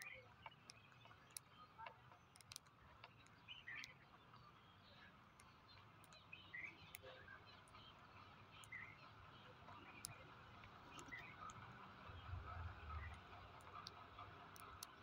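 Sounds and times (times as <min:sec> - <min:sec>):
light ticks: 0:00.0 - 0:15.0.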